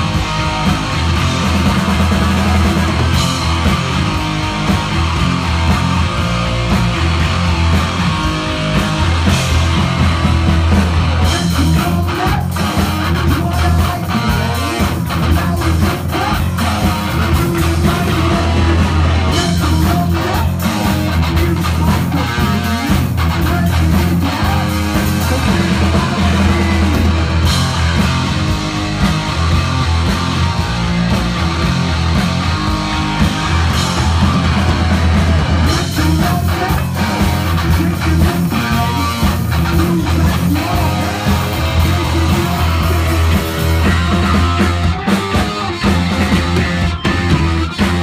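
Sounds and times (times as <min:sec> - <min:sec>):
drum kit: 0:00.0 - 0:48.0
electric guitar: 0:00.0 - 0:48.0.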